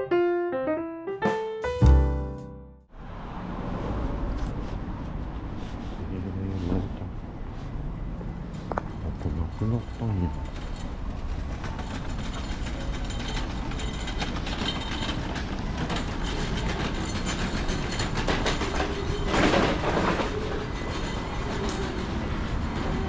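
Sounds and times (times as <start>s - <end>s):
road and wind noise: 2.9s - 23.0s.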